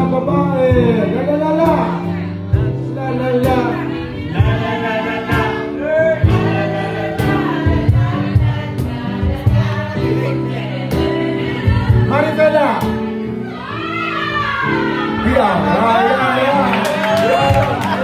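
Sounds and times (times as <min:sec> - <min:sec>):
instrumental backing track: 0:00.0 - 0:18.0
person singing into a microphone: 0:00.0 - 0:18.0.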